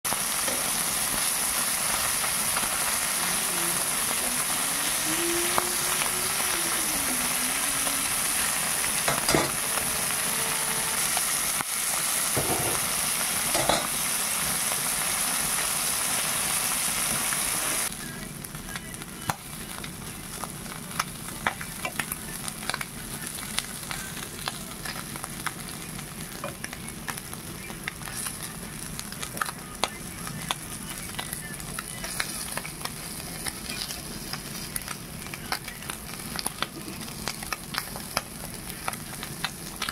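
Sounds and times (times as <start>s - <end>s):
fish sizzling in hot oil: 0.1s - 39.9s.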